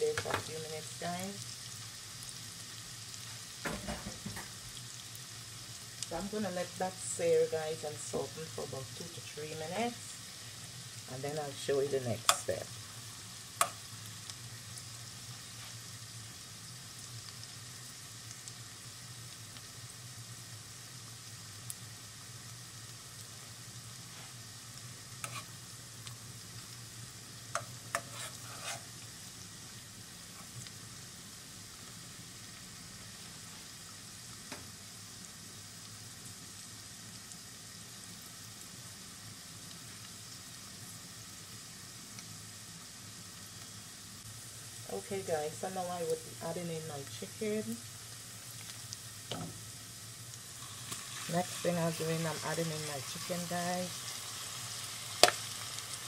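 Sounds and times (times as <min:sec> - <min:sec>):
onions sizzling in a pan: 0:00.0 - 0:56.0.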